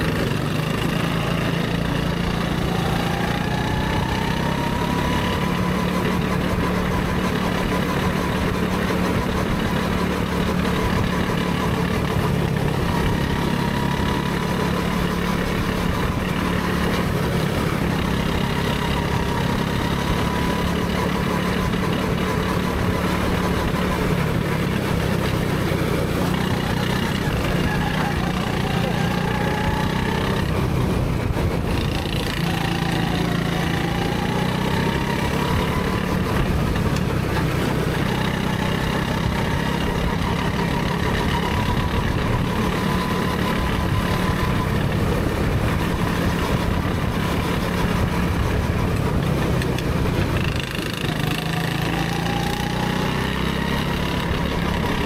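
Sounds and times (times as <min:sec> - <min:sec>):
go-kart engine drone and whine: 0:00.0 - 0:55.0.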